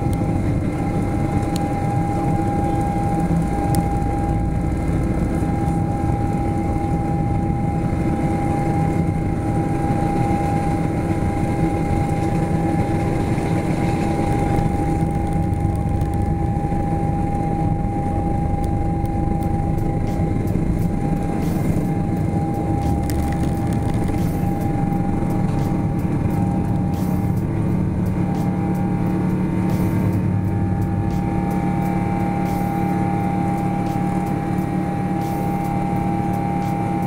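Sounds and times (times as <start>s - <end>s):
jet engines whining: 0.0s - 37.0s
wheels rumbling on runway: 0.0s - 37.0s.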